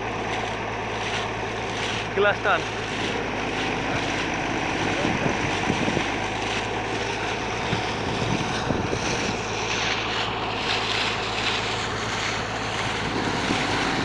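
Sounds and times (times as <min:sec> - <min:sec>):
pressure washer water jet hissing: 0:00.0 - 0:14.0
pump motor hum: 0:00.0 - 0:14.0.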